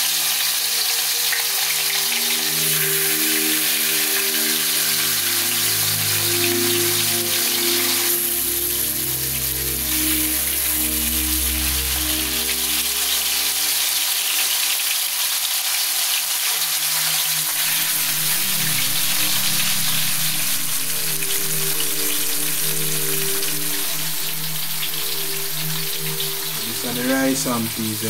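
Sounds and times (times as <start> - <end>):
background music: 0.0 - 14.6, 16.5 - 28.0
food frying in a pot: 0.0 - 28.0.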